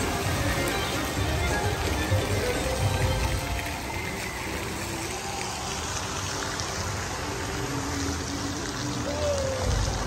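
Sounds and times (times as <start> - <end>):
indoor fountain splashing: 0.0 - 10.0.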